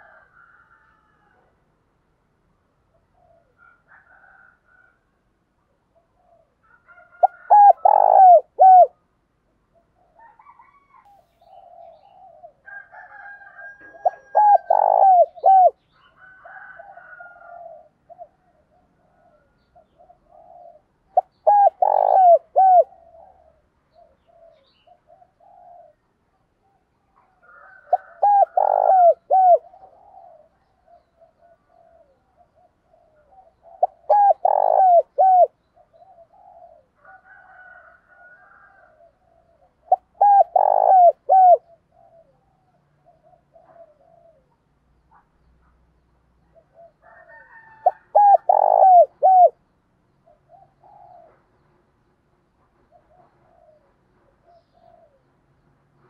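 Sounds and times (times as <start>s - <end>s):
dove cooing: 0.0s - 1.5s, 2.9s - 5.0s, 5.9s - 9.0s, 9.7s - 45.2s, 46.4s - 49.6s, 50.2s - 51.6s, 52.9s - 55.3s.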